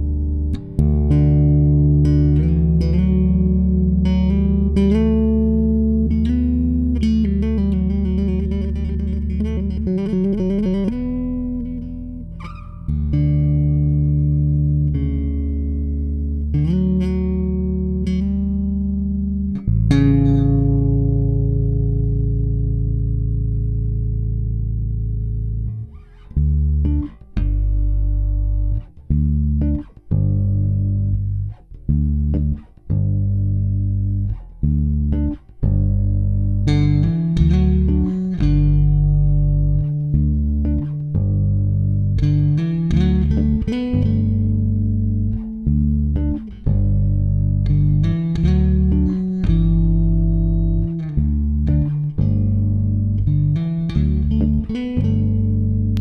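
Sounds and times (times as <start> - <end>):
electric bass playing: 0.0 - 56.0.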